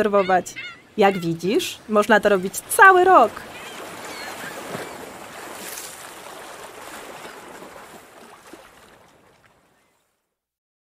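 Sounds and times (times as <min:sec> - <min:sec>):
water lapping on shore: 0:00.0 - 0:10.2.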